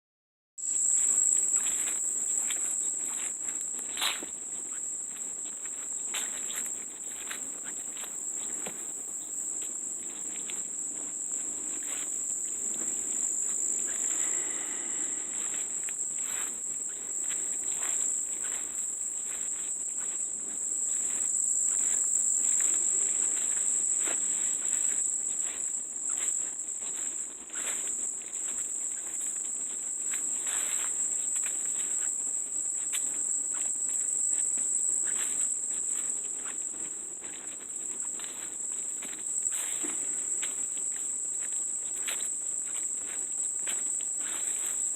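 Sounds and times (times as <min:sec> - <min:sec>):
shrill insect chorus: 0:00.6 - 0:44.9
footsteps walking: 0:01.6 - 0:29.4, 0:36.7 - 0:44.9.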